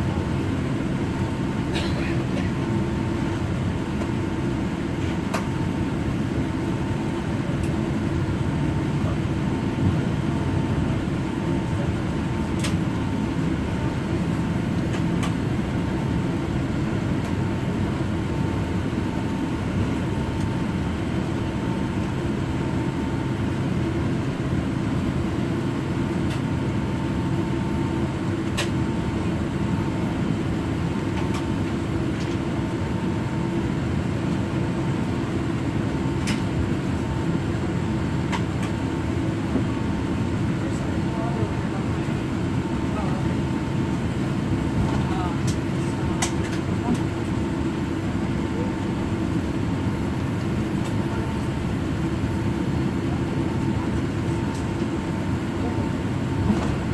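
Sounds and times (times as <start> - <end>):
aircraft engines low rumble: 0.0 - 56.9.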